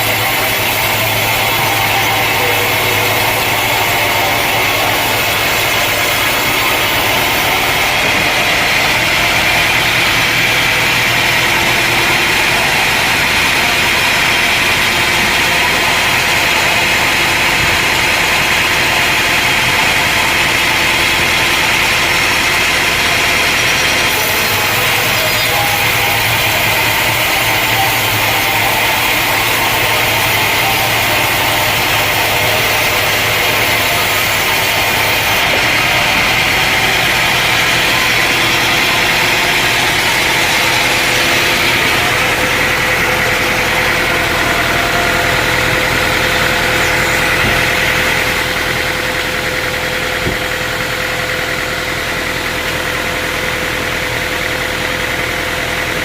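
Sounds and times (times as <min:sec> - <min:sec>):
sawmill engine droning: 0:00.0 - 0:56.0.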